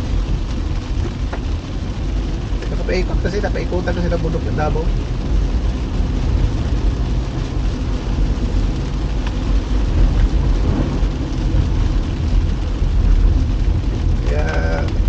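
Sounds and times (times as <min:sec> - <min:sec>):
car engine rumble: 0:00.0 - 0:15.0
rain on car: 0:00.0 - 0:15.0.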